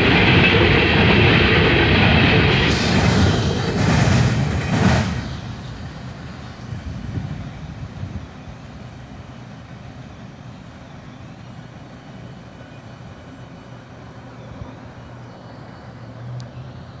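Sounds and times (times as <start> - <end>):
train cars rumbling on rails: 0.0 - 17.0.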